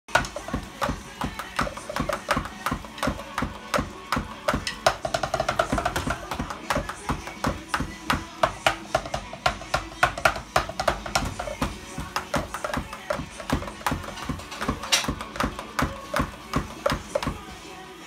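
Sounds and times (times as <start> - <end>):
drumsticks hitting electronic drum pads: 0.1 - 17.4.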